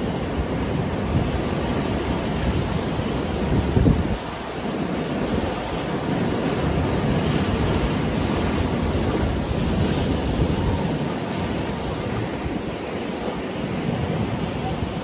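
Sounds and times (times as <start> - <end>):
surf breaking on shore: 0.0 - 15.0
wind rumble on microphone: 0.0 - 15.0.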